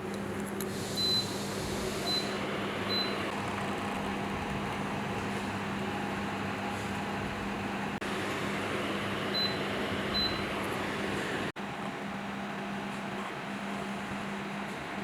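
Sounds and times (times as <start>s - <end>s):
machine hum with rushing air: 0.0s - 15.0s.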